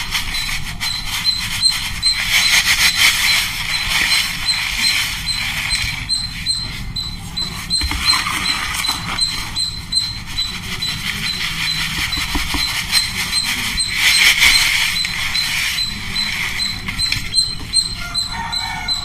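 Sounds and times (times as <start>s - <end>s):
bird chirping: 0.2s - 19.0s.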